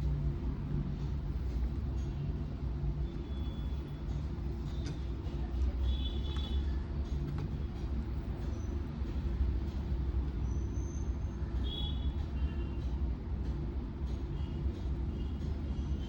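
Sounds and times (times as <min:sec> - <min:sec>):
low background rumble with hum: 0:00.0 - 0:16.0.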